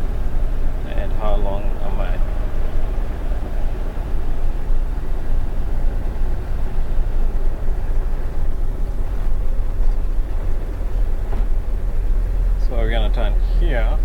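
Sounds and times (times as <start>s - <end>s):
road noise: 0.0s - 14.0s
truck engine rumble: 0.0s - 14.0s.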